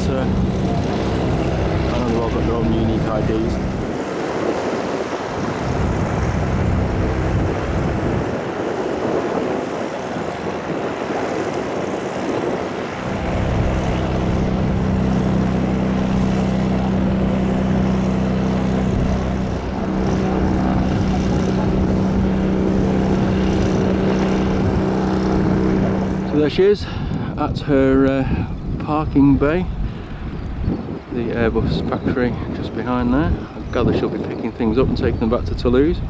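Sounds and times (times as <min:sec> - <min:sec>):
jet engines droning: 0:00.0 - 0:36.0.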